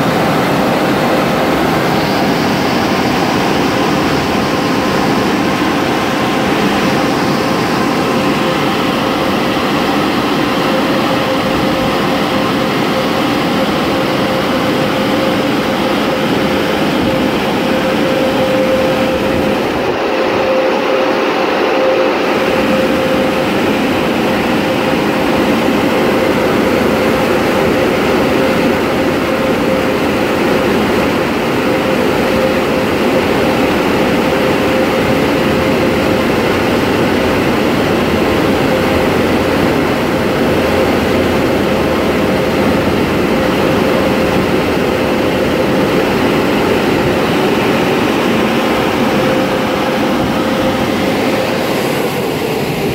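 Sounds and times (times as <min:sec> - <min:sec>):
air dryer blowers rushing: 0:00.0 - 0:52.9.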